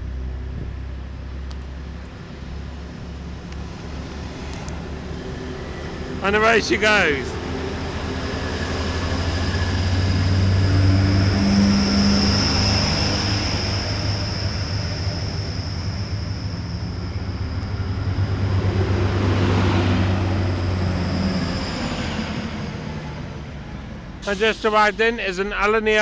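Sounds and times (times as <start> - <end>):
diesel train engine drone and whine: 0.0 - 26.0.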